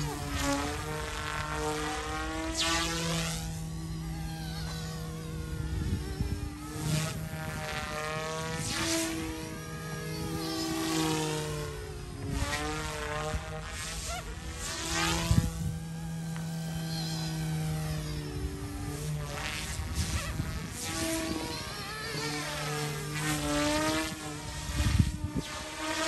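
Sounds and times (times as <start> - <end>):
rc helicopter rotors whining: 0.0 - 26.0.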